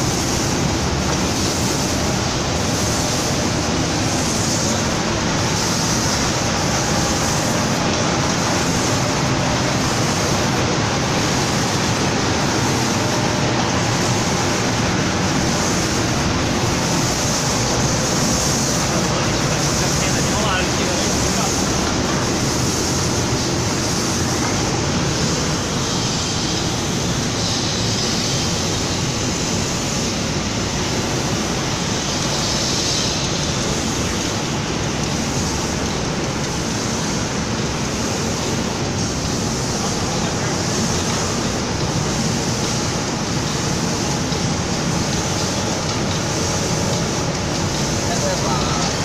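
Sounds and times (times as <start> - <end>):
paint spraying machine running: 0.0 - 49.0.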